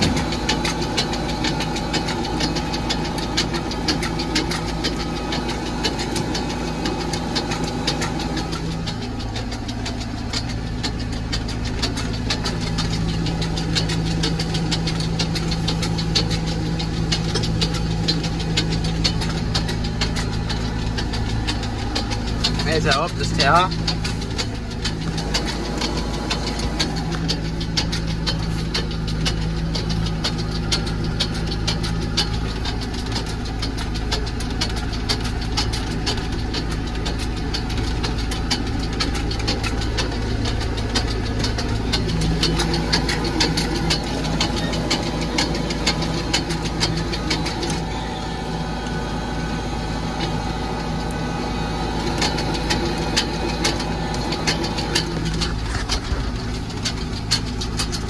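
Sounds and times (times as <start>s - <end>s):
rattling clicks: 0.0s - 48.0s, 50.2s - 58.0s
tractor engine running: 0.0s - 58.0s.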